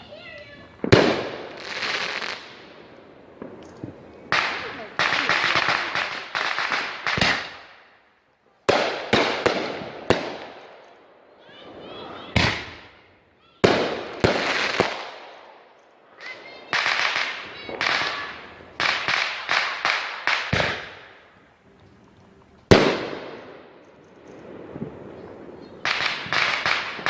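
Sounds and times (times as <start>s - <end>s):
fireworks bangs echoing: 0.0s - 21.4s, 22.6s - 27.0s.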